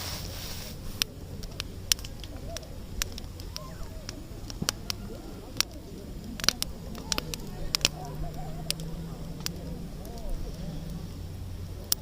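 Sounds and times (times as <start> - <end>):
campfire crackling: 0.0 - 12.0
sharp pops and snaps of fire: 0.0 - 12.0.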